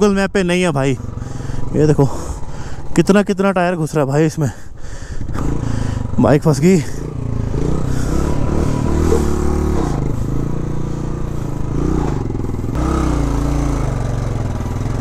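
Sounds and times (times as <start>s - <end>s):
motorcycle engine revving: 0.0s - 4.1s, 5.1s - 15.0s.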